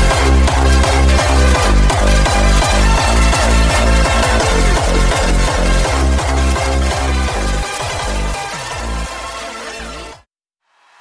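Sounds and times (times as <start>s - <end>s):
electronic dance music: 0.0s - 10.3s.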